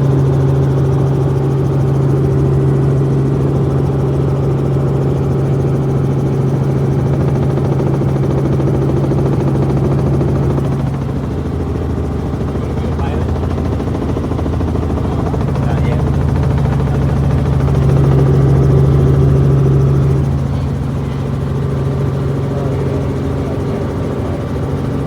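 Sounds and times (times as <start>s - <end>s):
helicopter droning: 0.0s - 25.0s.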